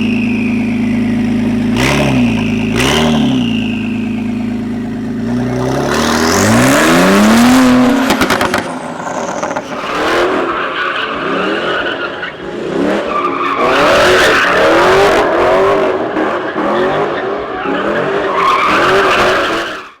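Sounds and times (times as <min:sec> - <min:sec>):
engine crackles: 0:00.0 - 0:19.3
car engine revving hard: 0:00.0 - 0:19.6.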